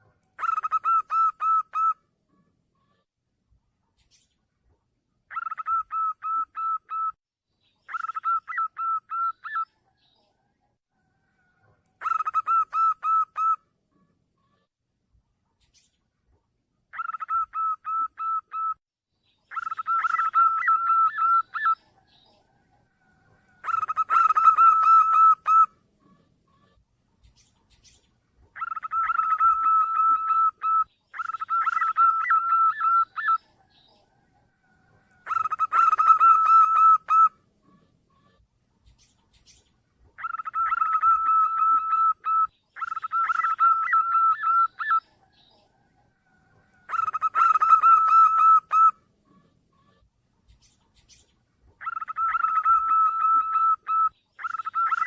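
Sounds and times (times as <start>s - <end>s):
dove cooing song: 0.0s - 2.0s, 5.3s - 7.2s, 7.9s - 9.8s, 12.0s - 13.6s, 16.9s - 18.8s, 19.5s - 55.0s.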